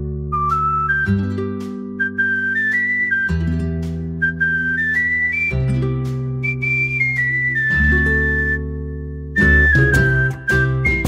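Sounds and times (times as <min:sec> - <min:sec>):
acoustic guitar chords: 0:00.0 - 0:11.0
whistled melody: 0:00.0 - 0:11.0.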